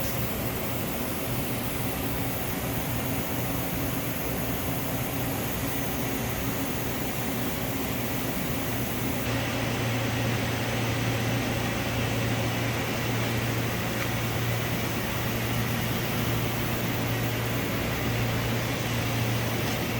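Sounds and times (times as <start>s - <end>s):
industrial machinery hum: 0.0s - 19.9s.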